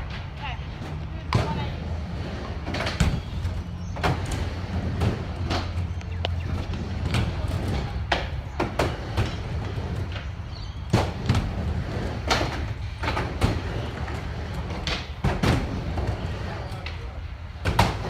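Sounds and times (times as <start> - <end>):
scooter wheels rolling on concrete: 0.0 - 18.0.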